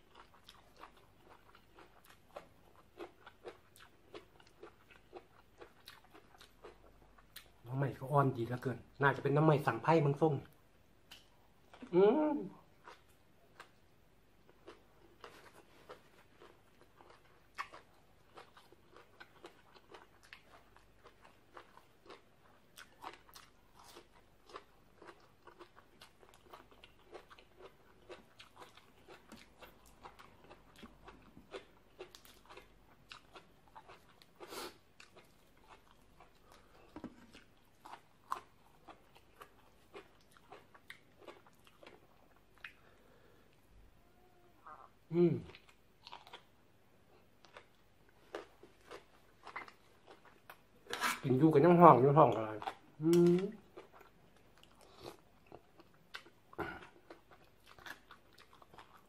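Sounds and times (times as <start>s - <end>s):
crunchy chewing: 0.0s - 7.6s, 14.5s - 43.6s, 45.5s - 46.5s, 47.1s - 51.3s, 52.5s - 59.0s.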